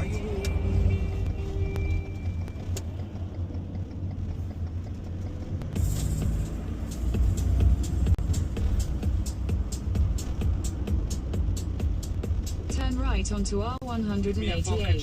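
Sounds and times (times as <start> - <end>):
music with ticking beat: 0.0 - 15.0
truck engine and road rumble: 0.0 - 15.0.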